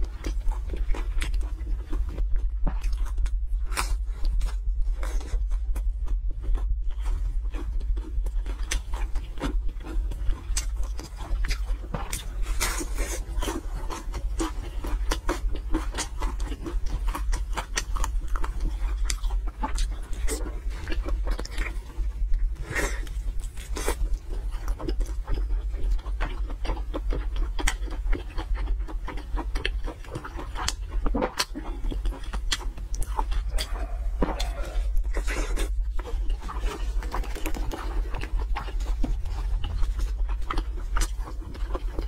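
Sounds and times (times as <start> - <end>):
chewing with mouth clicks: 0.0 - 42.0
steady low hum: 0.0 - 42.0.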